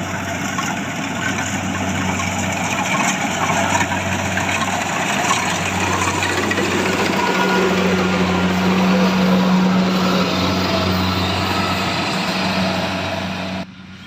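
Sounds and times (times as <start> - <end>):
harvesting machine engine humming: 0.0 - 14.0.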